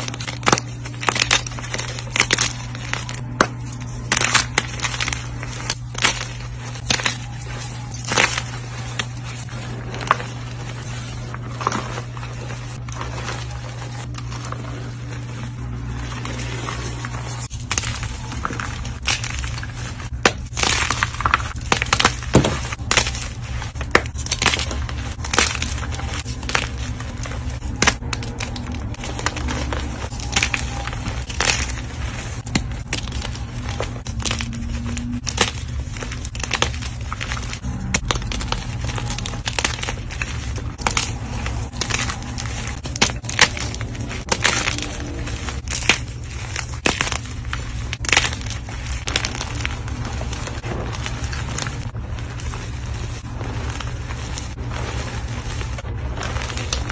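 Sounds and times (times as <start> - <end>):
chalk crunching and crumbling: 0.0 - 56.9
steady low hum: 0.0 - 56.9.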